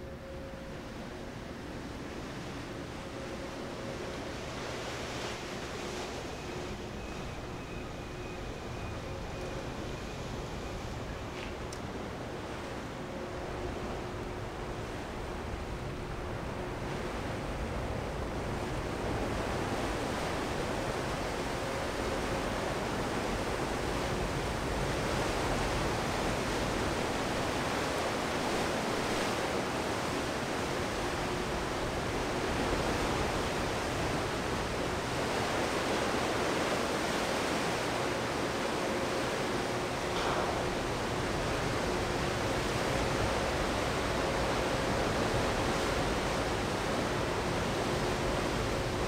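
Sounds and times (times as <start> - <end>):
churned water: 0.0 - 49.0
faint hum: 0.0 - 49.0.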